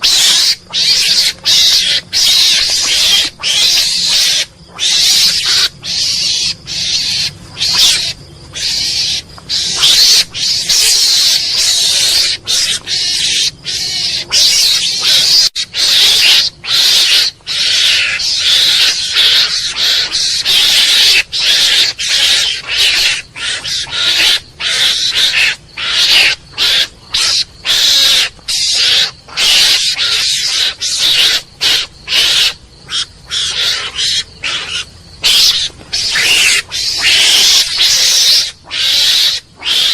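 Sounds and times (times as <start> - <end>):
mongoose harsh chatter calls: 0.0 - 39.9.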